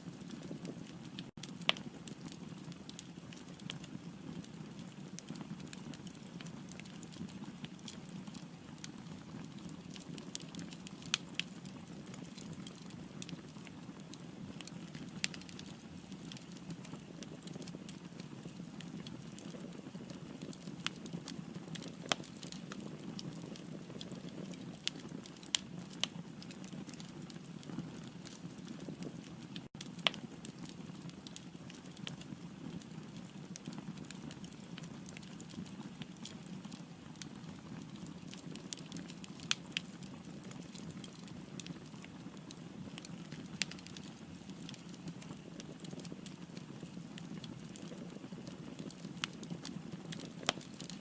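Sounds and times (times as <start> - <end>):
fire crackling and popping: 0.0 - 51.0.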